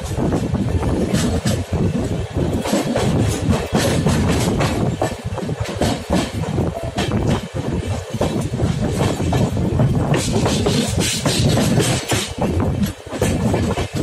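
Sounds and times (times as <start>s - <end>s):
train wheels rumbling on track: 0.0s - 14.0s
wheels clickety-clack over rail joints: 0.0s - 14.0s.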